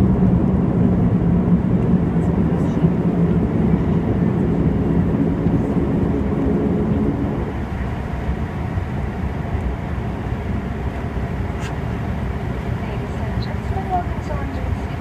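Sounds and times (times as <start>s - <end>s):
propeller engines droning: 0.0s - 15.0s
wheels rumbling on tarmac: 0.0s - 15.0s.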